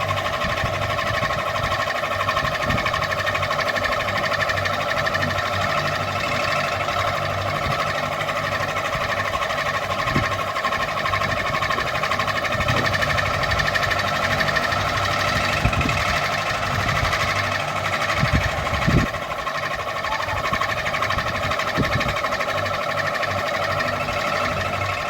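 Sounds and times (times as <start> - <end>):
ceiling fan motor whirring: 0.0 - 25.0.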